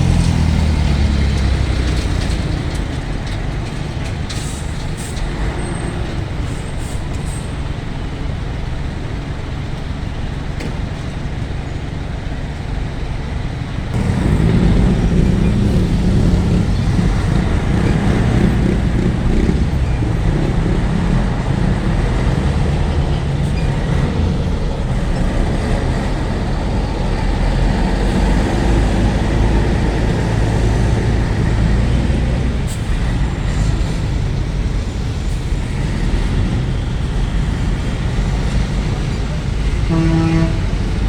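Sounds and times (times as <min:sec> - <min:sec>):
heavy truck engine on road: 0:00.0 - 0:41.0.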